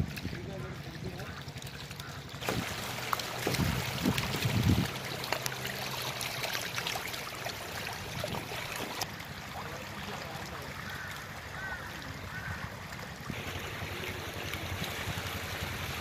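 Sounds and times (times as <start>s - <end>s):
catfish splashing in mud: 1.2s - 16.0s.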